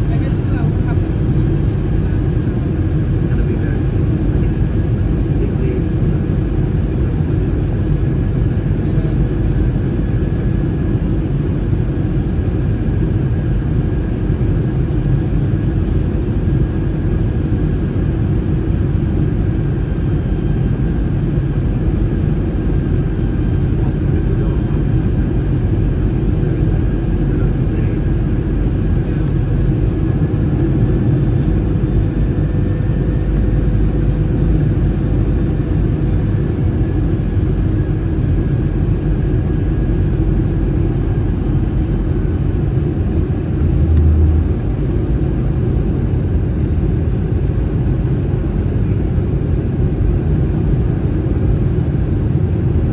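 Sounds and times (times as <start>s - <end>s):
airplane cabin roar: 0.0s - 52.9s.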